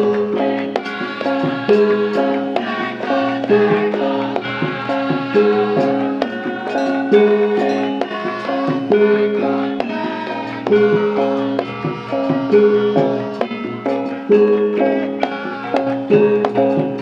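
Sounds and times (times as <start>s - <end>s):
drum hits: 0.0s - 17.0s
ringing tuned percussion: 0.0s - 17.0s.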